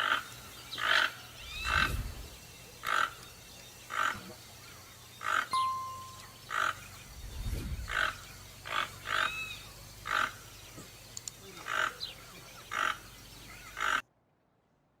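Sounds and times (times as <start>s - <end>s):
toucans calling: 0.0s - 14.0s.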